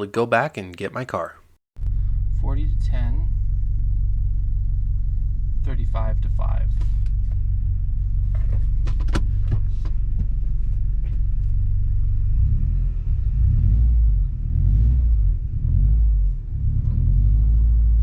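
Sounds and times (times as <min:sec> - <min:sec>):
car engine and road rumble: 0:01.8 - 0:18.0.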